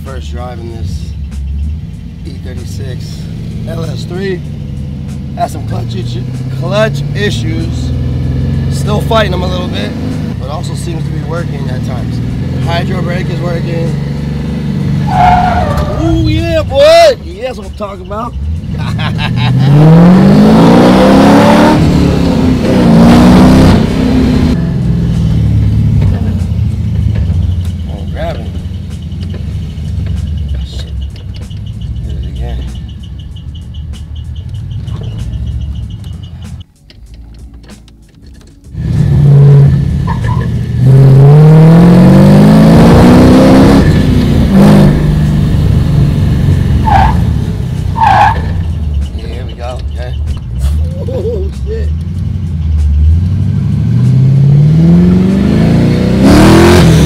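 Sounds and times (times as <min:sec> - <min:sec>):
car engine accelerating: 0:00.1 - 0:57.0.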